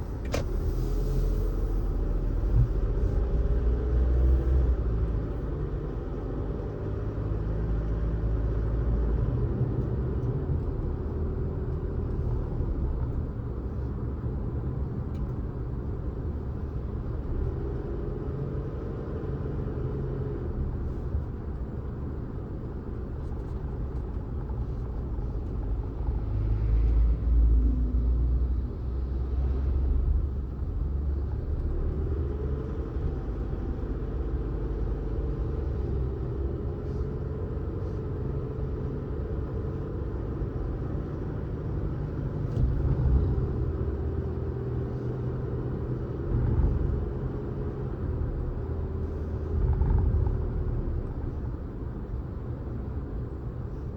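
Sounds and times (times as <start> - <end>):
car engine and tyres rumbling: 0.0 - 53.9.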